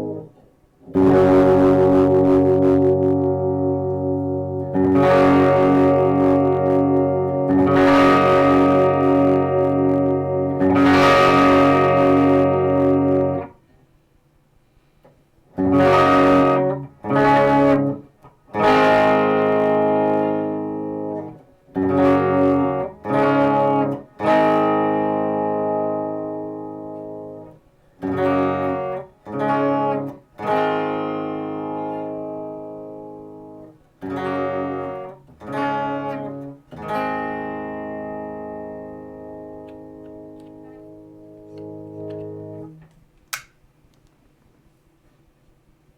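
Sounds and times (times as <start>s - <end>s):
electric guitar strumming chords: 0.0s - 13.6s, 15.5s - 42.8s.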